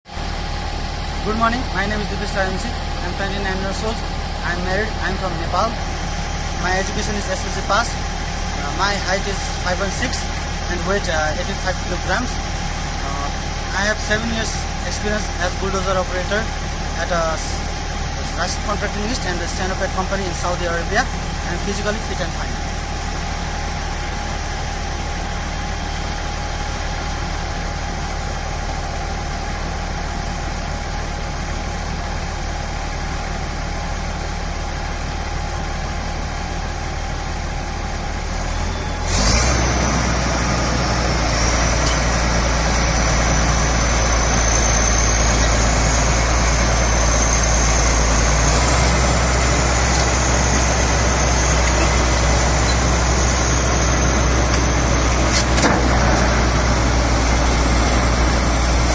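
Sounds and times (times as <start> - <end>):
bulldozer diesel engine: 0.0 - 58.9
high whine: 0.0 - 58.9.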